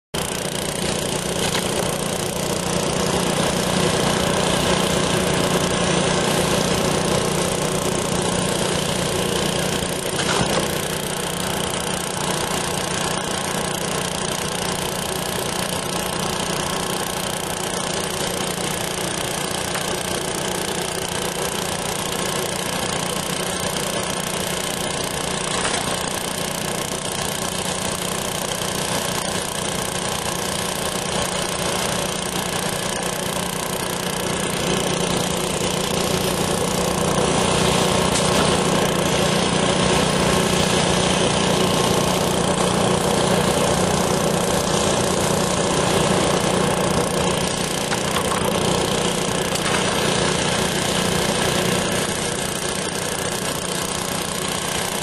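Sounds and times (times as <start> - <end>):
small engine running: 0.2 - 55.0.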